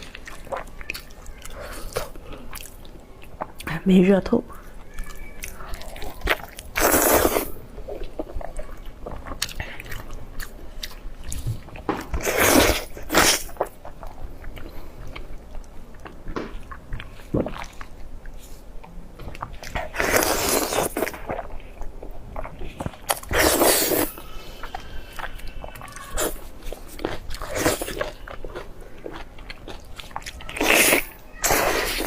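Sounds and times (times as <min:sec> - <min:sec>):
chewing and biting meat: 0:04.8 - 0:32.0.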